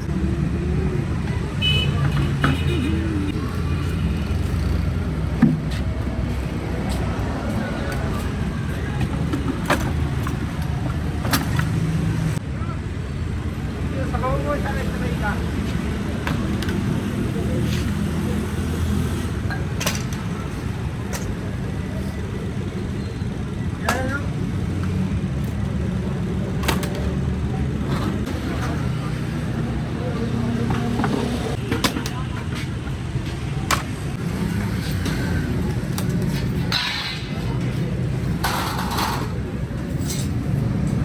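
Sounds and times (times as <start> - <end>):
faint voices: 0.0 - 41.0
traffic engine rumble: 0.0 - 41.0.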